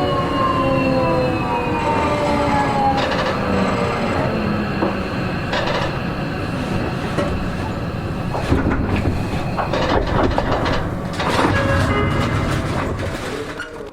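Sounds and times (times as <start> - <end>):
train rumble: 0.0 - 13.9
wheels clacking over rail joints: 2.3 - 13.9.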